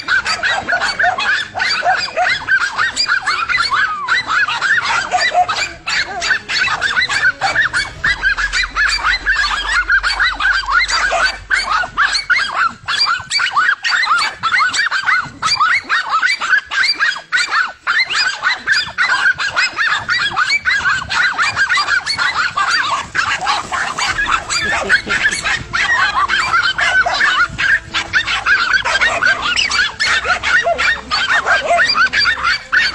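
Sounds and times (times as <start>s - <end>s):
flock of fowl honking and squawking: 0.0s - 32.9s.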